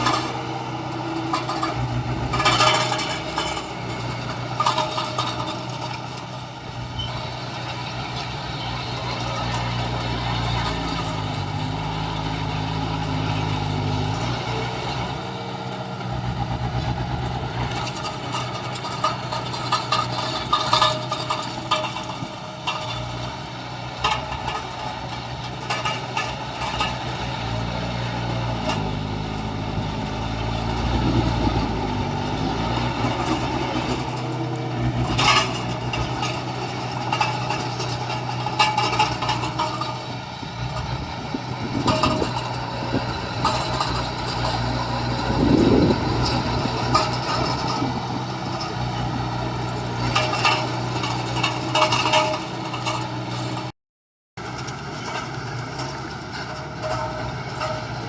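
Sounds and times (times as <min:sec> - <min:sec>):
heavy diesel engines running: 0:00.0 - 0:53.7, 0:54.4 - 0:58.0.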